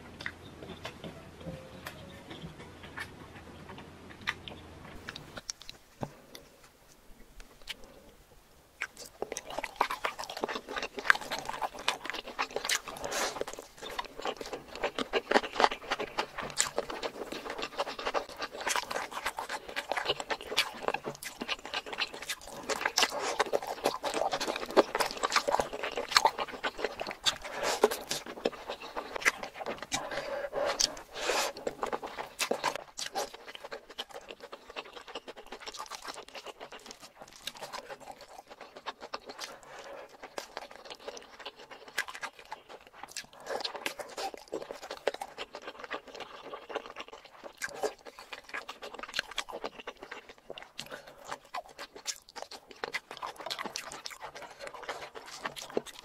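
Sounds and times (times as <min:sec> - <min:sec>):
wet chewing and crunching: 0:02.3 - 0:08.2, 0:08.8 - 0:56.0.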